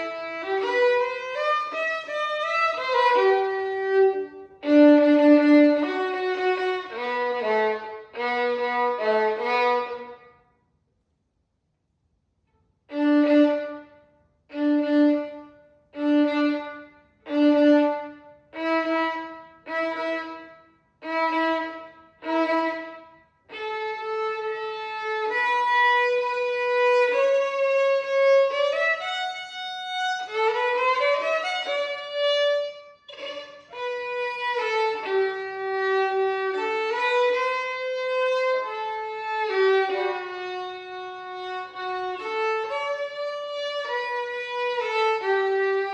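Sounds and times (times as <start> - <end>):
violin playing a slow waltz: 0.0 - 10.4, 12.9 - 45.9.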